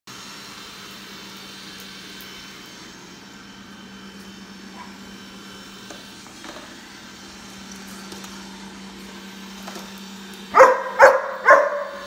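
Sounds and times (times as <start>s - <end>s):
robot vacuum cleaner whirring: 0.1s - 12.0s.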